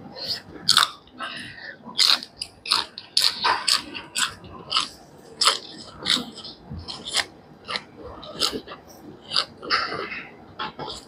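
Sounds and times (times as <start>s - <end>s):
person chewing food: 0.2s - 11.0s.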